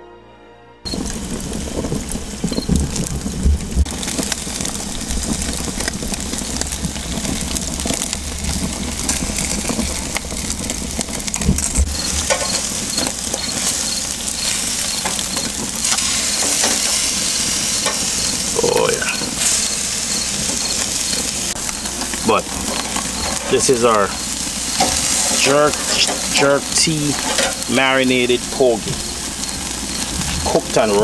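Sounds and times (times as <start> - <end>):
fish sizzling on a grill: 0.9 - 31.0
low hum: 0.9 - 31.0.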